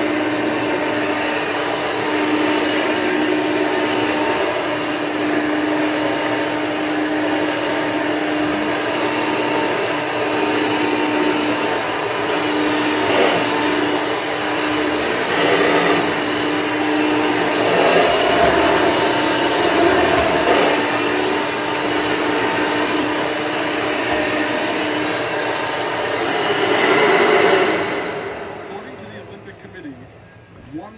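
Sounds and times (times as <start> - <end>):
upright vacuum cleaner running: 0.0 - 30.9.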